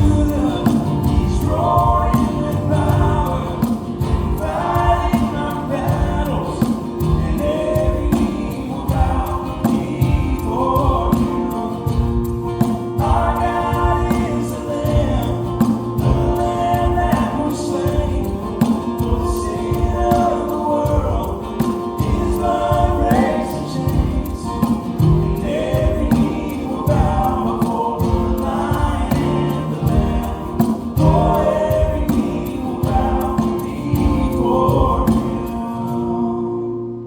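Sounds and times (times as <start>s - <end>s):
steady beat: 0.0s - 35.7s
choir singing worship song: 0.0s - 37.0s.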